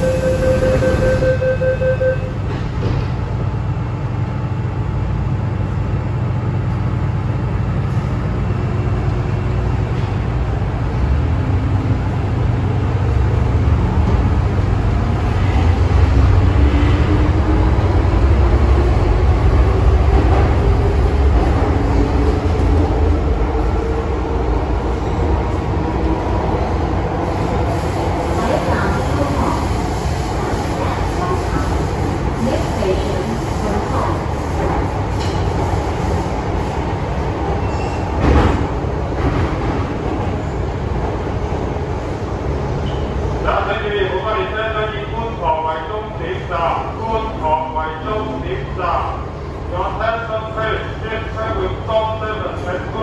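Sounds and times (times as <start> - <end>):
train wheels rumbling on track: 2.2 - 53.0.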